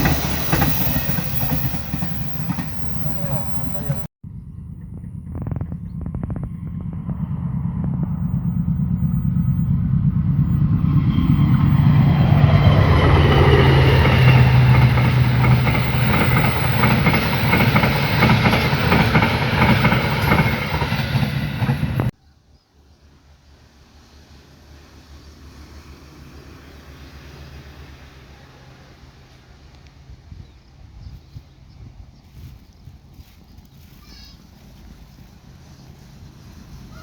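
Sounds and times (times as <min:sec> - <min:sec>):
train engine hum: 0:00.0 - 0:22.2, 0:22.8 - 0:31.3, 0:32.0 - 0:37.0
wheels rushing on rails: 0:00.0 - 0:22.2, 0:23.1 - 0:30.8, 0:33.0 - 0:37.0.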